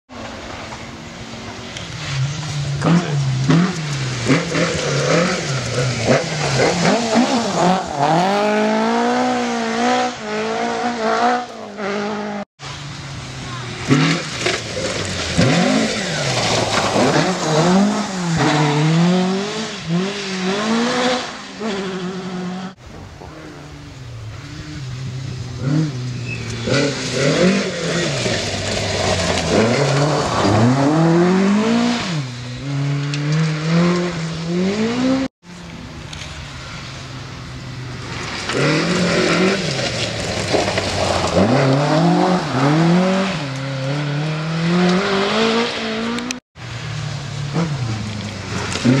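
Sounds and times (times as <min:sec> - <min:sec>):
rally car engines revving: 0:00.1 - 0:49.0.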